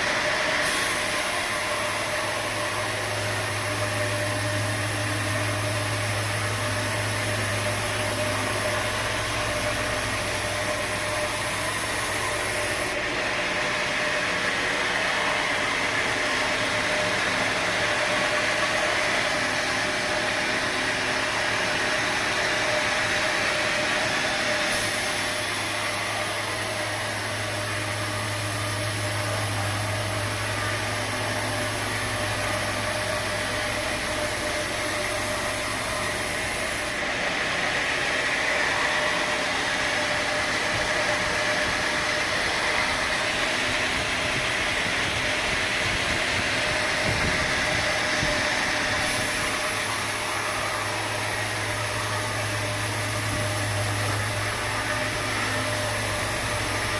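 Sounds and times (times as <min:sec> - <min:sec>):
bright machine noise: 0:00.0 - 0:56.9
sawmill machinery humming: 0:00.0 - 0:56.9.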